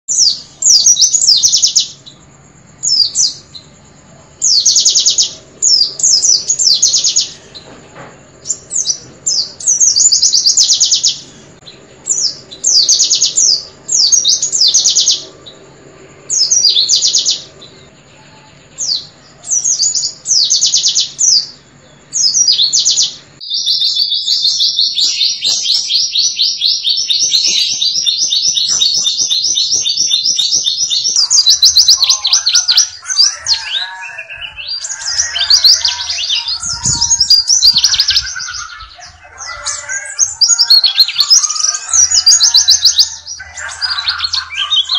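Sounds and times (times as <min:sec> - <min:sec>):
bird singing rapid trills: 0:00.1 - 0:44.9
faint steady hum: 0:00.1 - 0:44.9.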